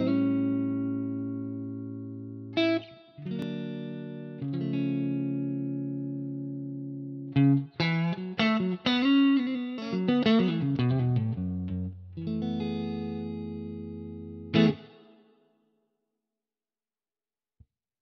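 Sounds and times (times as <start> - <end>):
clean electric guitar playing: 0.0 - 15.1.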